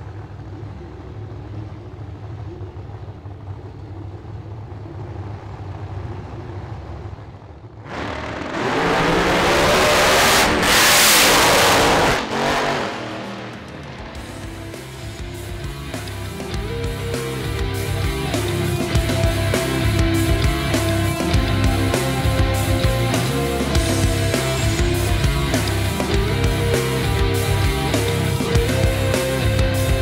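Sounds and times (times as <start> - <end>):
racing car engine revving: 3.8 - 30.0.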